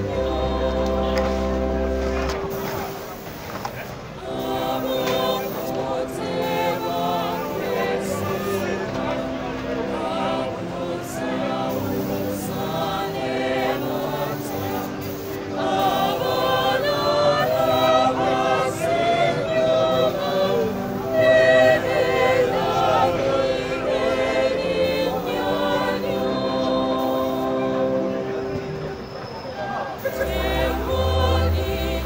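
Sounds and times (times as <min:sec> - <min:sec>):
voices singing over chords: 0:00.0 - 0:32.0.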